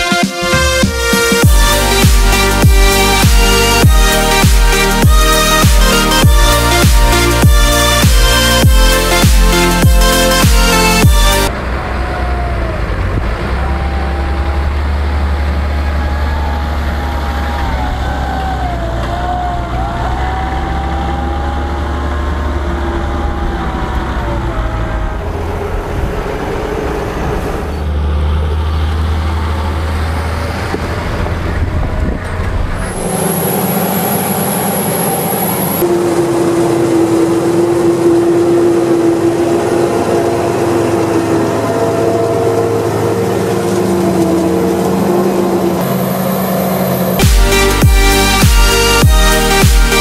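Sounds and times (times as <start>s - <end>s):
wavering whine: 0.0s - 28.0s, 31.8s - 50.0s
tractor engine hum: 0.0s - 50.0s
forage harvester running: 0.1s - 50.0s.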